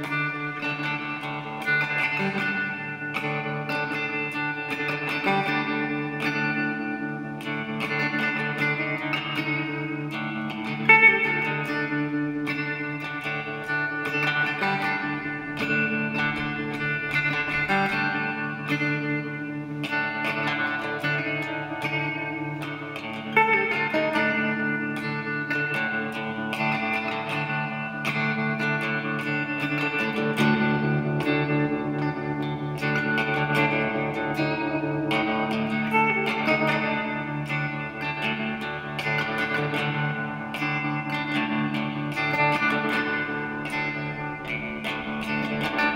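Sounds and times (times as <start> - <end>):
plucked guitar chords: 0.0 - 45.9.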